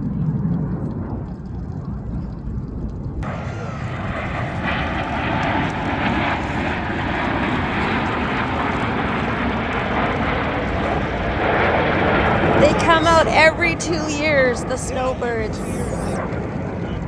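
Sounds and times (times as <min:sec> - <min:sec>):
jet aircraft flying overhead: 0:03.2 - 0:17.0.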